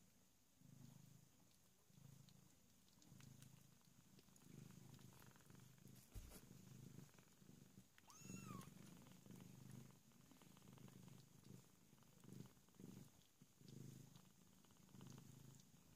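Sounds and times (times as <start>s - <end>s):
cat purring faintly: 0.0s - 15.9s.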